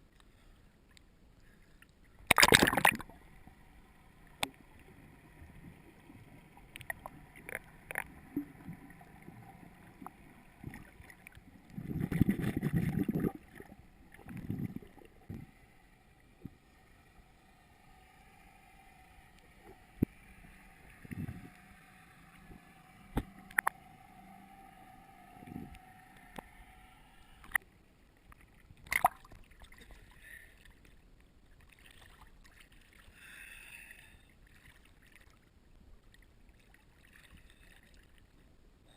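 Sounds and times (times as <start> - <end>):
water splashing: 2.2 - 27.6, 28.2 - 33.2, 34.4 - 38.3.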